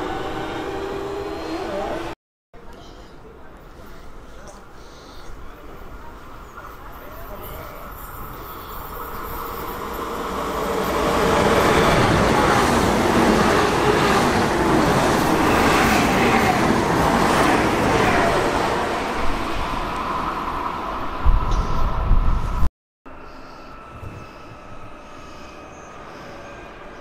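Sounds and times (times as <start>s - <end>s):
train passing: 0.0s - 2.2s, 5.6s - 27.0s.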